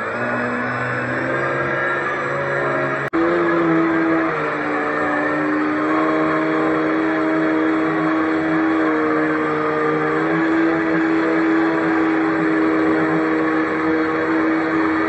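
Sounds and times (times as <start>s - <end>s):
toy boat motor whining: 0.0s - 15.0s.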